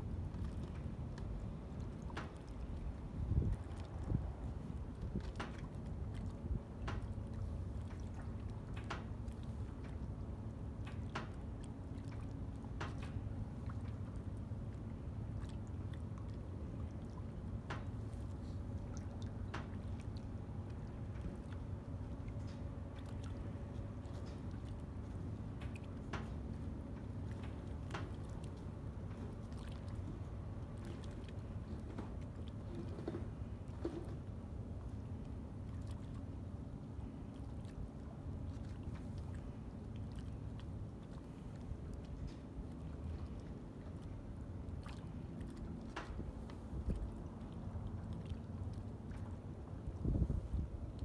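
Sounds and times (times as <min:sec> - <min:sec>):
small waves lapping against seawall: 0:00.0 - 0:51.0
steady low rumble: 0:00.0 - 0:51.0.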